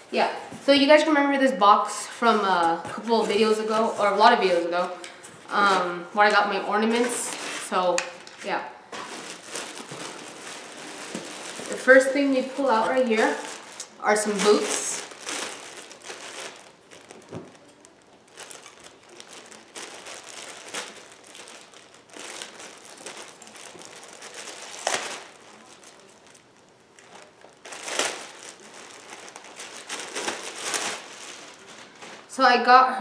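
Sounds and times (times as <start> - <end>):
plastic bag crinkling: 2.6 - 5.9, 6.9 - 32.4.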